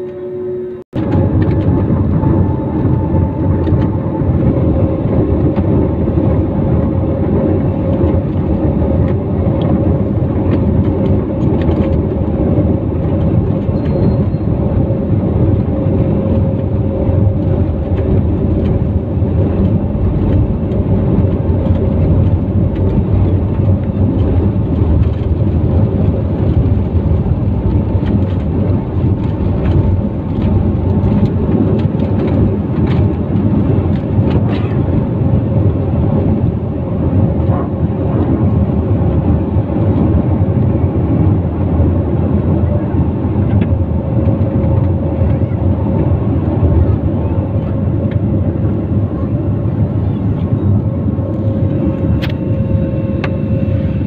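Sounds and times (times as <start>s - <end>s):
jet engines at high thrust: 0.0s - 54.0s
wheels rumbling on runway: 0.0s - 54.0s.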